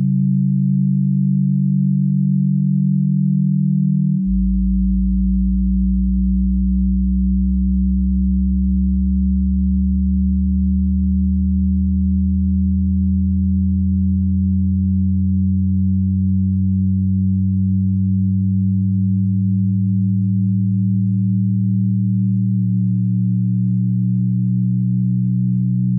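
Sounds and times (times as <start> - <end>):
electronic drone of low tones: 0.0 - 25.9.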